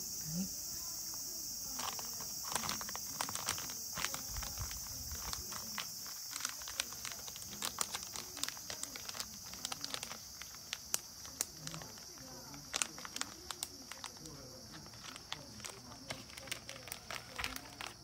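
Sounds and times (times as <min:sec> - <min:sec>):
steady high-pitched hiss: 0:00.0 - 0:18.0
cat licking and chewing: 0:01.8 - 0:18.0.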